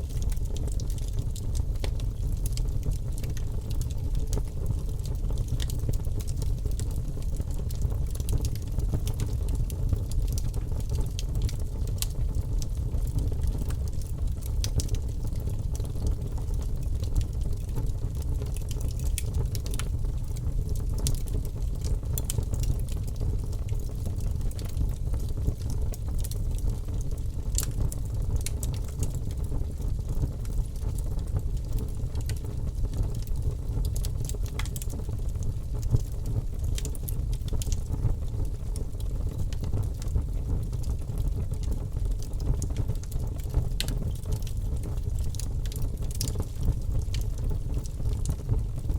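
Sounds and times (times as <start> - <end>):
fire crackles and pops: 0.0 - 48.9
fire rumbling: 0.0 - 48.9.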